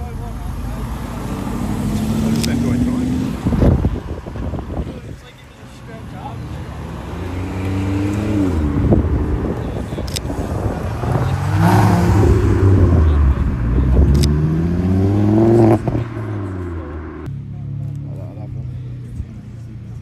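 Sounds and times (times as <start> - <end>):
car engine revving: 0.0 - 4.8, 5.8 - 19.2.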